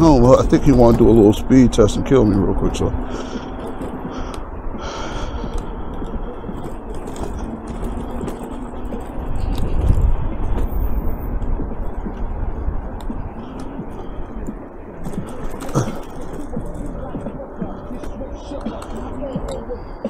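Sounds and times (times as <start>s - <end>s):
road rumble and rattling: 0.0s - 20.0s
wind rushing over microphone: 0.0s - 20.0s.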